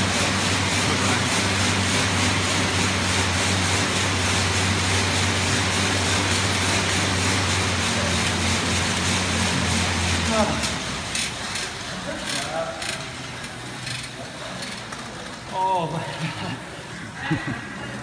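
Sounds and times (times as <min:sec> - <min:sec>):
exercise bike fan whooshing: 0:00.0 - 0:18.0.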